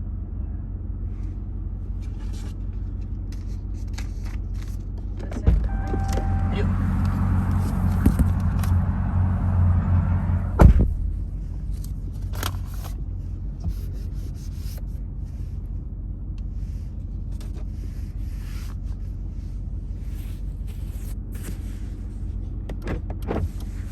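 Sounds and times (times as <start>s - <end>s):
truck vibration buzzing and rumble: 0.0s - 23.9s.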